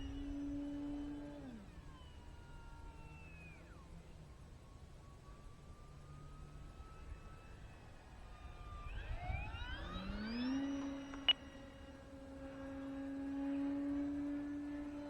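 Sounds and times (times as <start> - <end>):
electric motor and propeller whining: 0.0 - 15.0.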